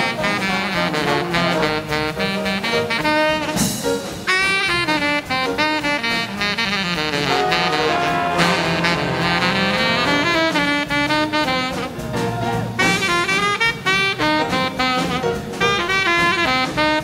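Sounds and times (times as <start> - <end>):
big band swing jazz: 0.0 - 17.0.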